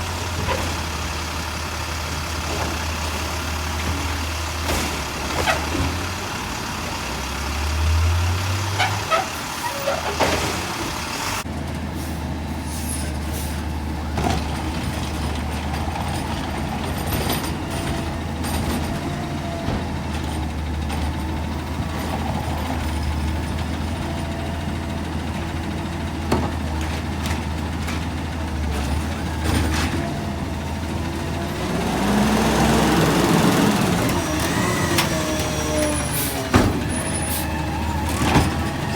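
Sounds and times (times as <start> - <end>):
diesel truck engine idling and revving: 0.0 - 38.9.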